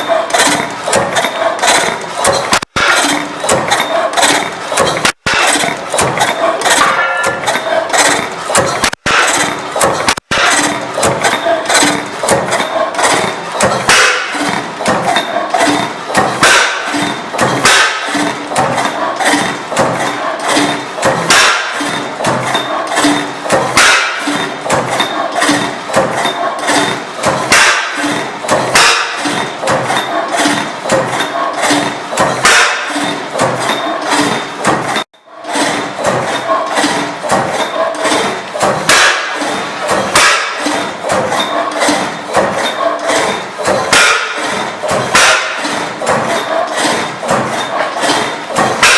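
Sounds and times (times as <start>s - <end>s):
gas engine knocking: 0.0s - 34.9s, 36.0s - 48.9s.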